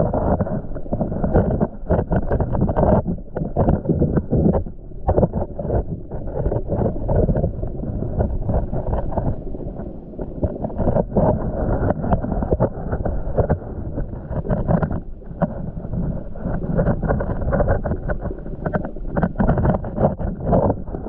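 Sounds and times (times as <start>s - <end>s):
muffled underwater sloshing: 0.0s - 21.0s.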